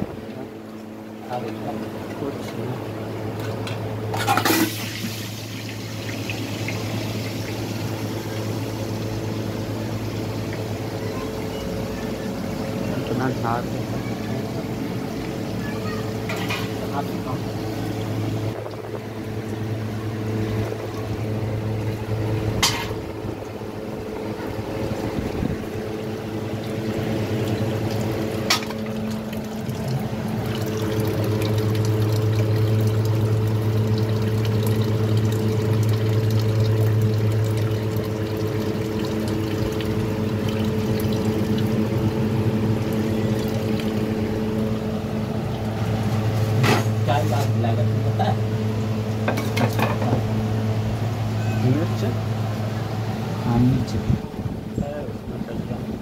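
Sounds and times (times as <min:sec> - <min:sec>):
steady low hum: 0:00.0 - 0:56.0
water sloshing and trickling: 0:00.2 - 0:53.4.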